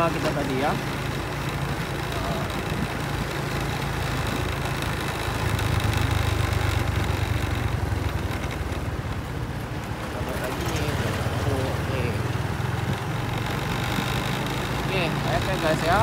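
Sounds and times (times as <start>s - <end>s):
motorcycle engine humming: 0.0s - 16.0s
wind and road noise: 0.0s - 16.0s.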